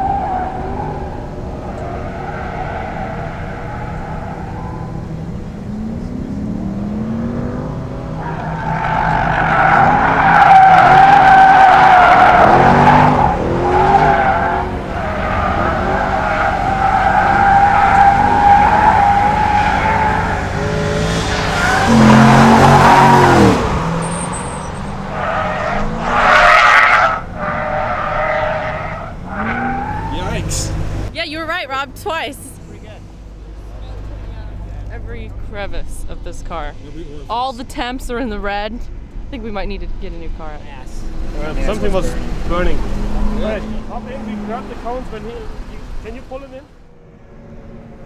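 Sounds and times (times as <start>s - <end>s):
car tyres squealing: 0.0s - 31.7s, 41.0s - 48.0s
car engine revving: 0.0s - 48.0s.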